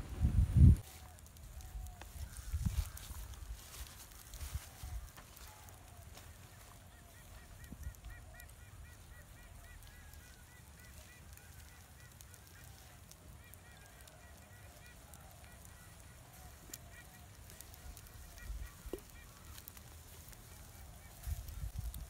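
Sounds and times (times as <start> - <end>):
faint bird calls: 0.2 - 22.0.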